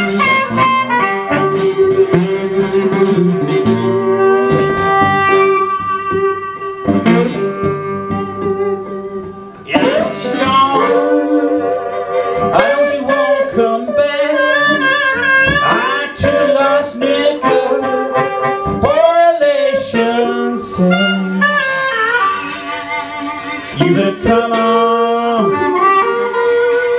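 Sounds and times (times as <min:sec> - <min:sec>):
blues harmonica solo: 0:00.0 - 0:26.9
resonator guitar: 0:00.0 - 0:26.9.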